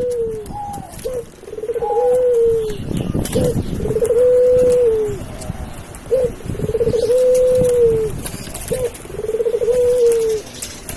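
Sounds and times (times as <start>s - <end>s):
dove cooing: 0.0s - 10.9s.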